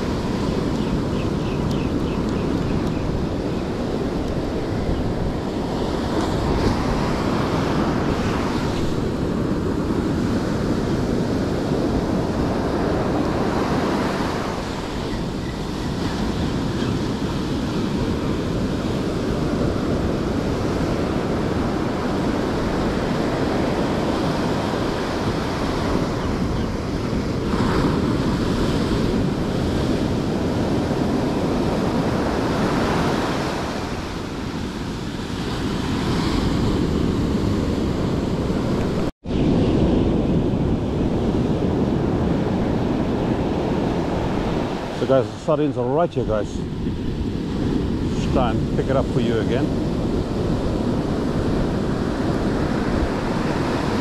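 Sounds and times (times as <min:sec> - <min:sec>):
ocean surf washing onto beach: 0:00.0 - 0:54.0
wind on microphone: 0:00.0 - 0:54.0.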